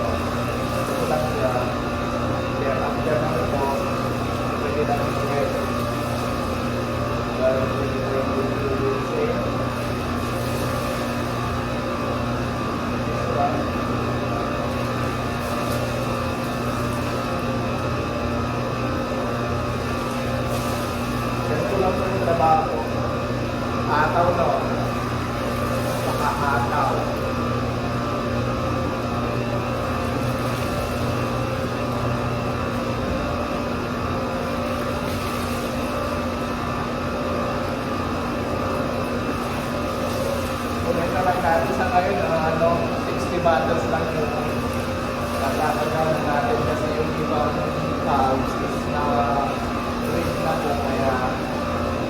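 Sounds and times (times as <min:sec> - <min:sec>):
machinery humming: 0:00.0 - 0:52.0.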